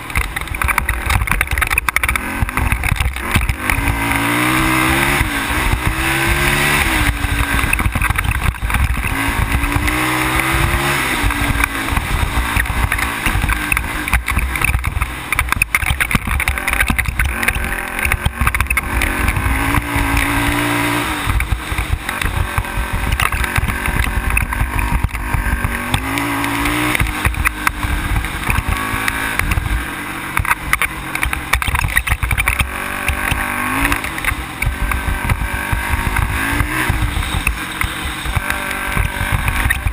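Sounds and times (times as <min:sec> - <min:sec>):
atv engine revving: 0:00.0 - 0:39.9
heavy low rumble: 0:00.0 - 0:39.9.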